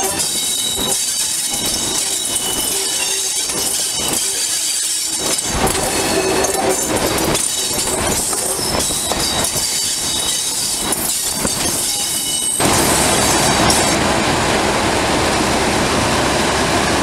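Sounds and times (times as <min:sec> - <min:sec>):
high wheel squeal: 0:00.0 - 0:14.1
diesel locomotive engine: 0:00.0 - 0:17.0
wheels on rails: 0:00.0 - 0:17.0.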